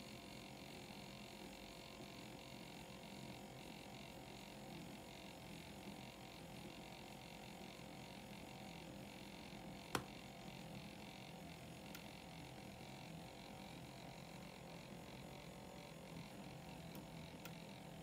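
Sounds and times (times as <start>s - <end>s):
milk frother humming: 0.0s - 18.0s.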